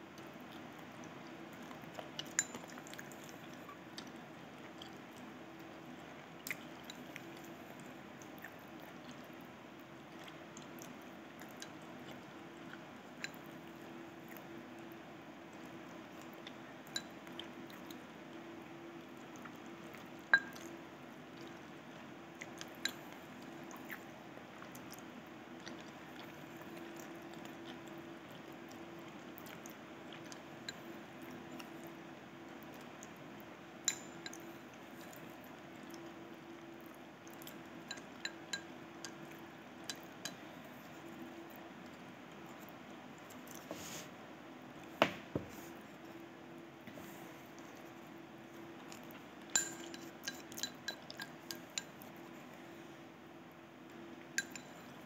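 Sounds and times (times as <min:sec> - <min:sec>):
soft chewing: 0:00.0 - 0:55.0.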